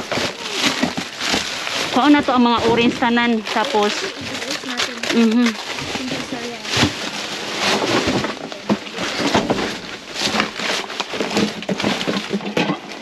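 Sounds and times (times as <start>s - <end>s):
plastic and cardboard rustling: 0.0s - 13.0s.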